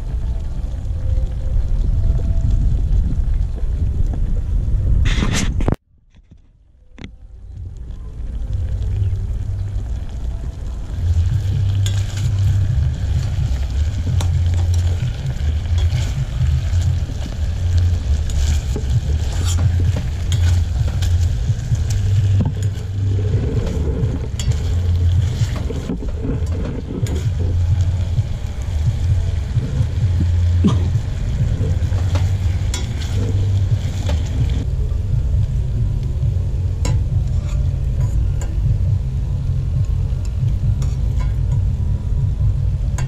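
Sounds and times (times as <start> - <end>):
wind buffeting microphone: 0.0 - 5.8, 7.3 - 43.0.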